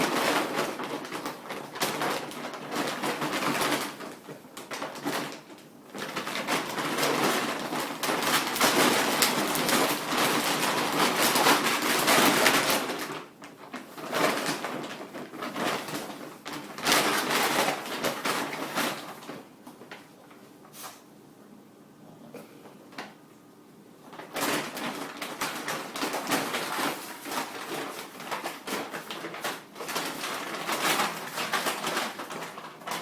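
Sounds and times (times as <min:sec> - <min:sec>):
dog food bag crinkling: 0:00.0 - 0:20.1, 0:24.0 - 0:33.0.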